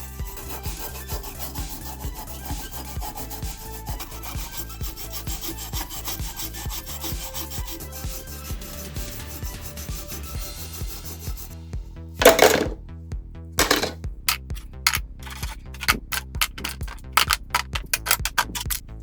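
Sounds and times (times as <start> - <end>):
hand rubbing model car: 0.0 - 11.6, 13.6 - 18.8
background music with steady beat: 0.0 - 19.0.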